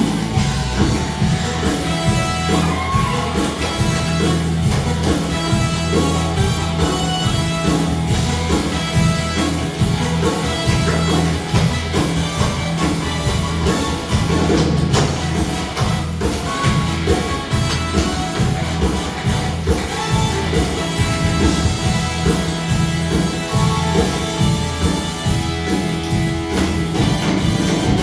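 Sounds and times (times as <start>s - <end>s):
live rock and roll band: 0.0s - 28.0s.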